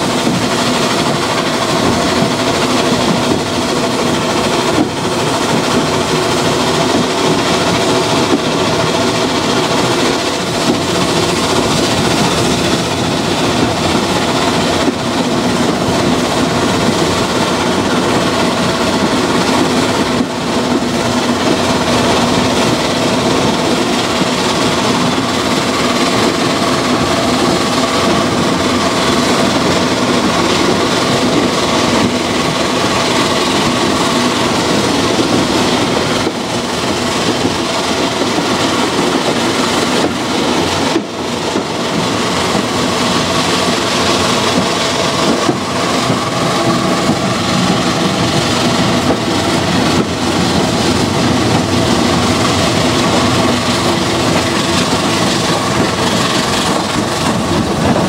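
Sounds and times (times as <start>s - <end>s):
steam locomotive working: 0.0s - 58.0s
train wheels on rails: 0.0s - 58.0s.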